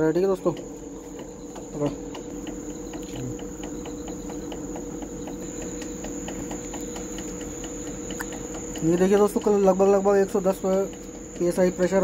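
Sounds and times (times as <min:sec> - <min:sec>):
air conditioner hum: 0:00.0 - 0:12.0
fast regular ticking: 0:00.0 - 0:12.0.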